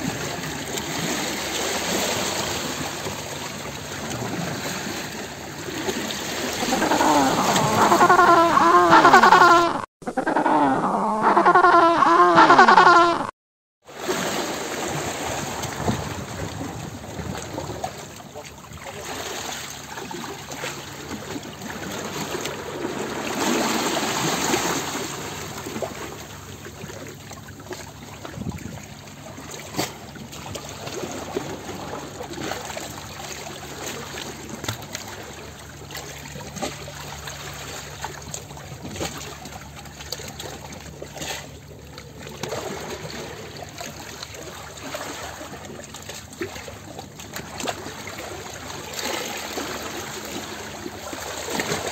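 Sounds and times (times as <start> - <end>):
underwater water wash: 0.0 - 13.0, 13.8 - 51.9.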